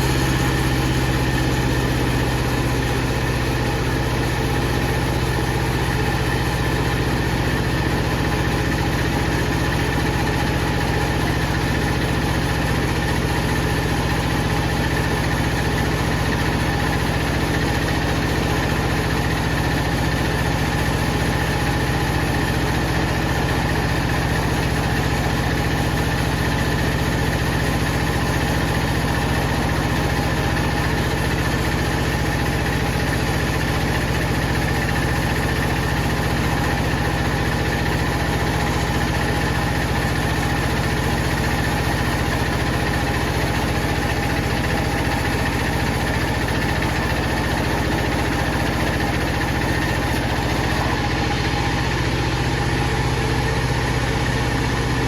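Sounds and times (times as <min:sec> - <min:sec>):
powered wood saw running: 0:00.0 - 0:54.8.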